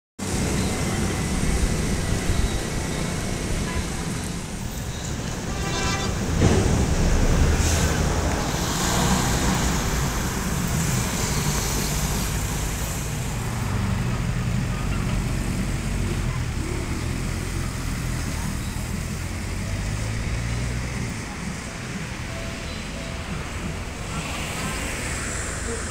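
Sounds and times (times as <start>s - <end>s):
vehicles driving past: 0.2s - 25.9s.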